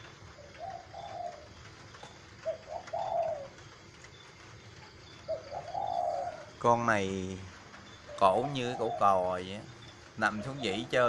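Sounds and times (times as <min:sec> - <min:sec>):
dove cooing: 0:00.0 - 0:04.2, 0:05.0 - 0:07.0, 0:07.8 - 0:11.0.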